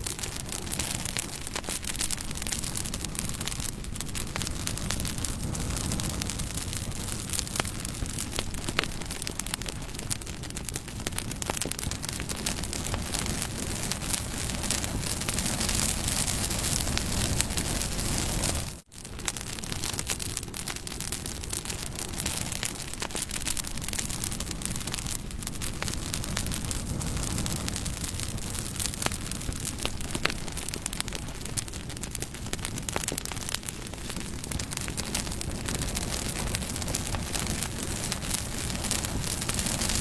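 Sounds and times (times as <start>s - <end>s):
burning wood crackling and popping: 0.0s - 40.0s
campfire hissing: 0.0s - 40.0s.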